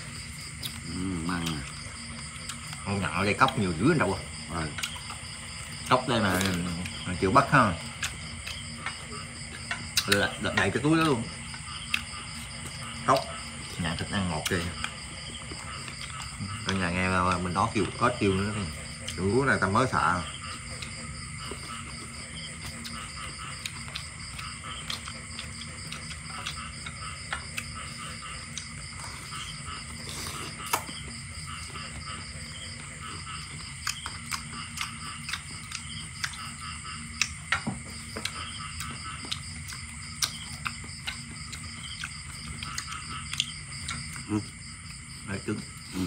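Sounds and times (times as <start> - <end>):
frogs calling: 0.0 - 46.0
insects trilling: 0.0 - 46.0.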